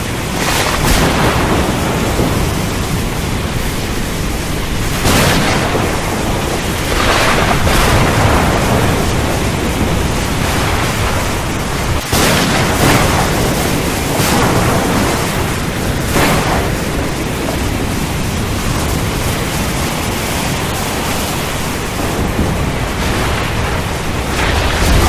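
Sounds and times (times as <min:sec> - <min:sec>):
heavy rain: 0:00.0 - 0:25.0
rumbling thunder: 0:00.0 - 0:25.0
thunder cracks and crashes: 0:00.0 - 0:25.0.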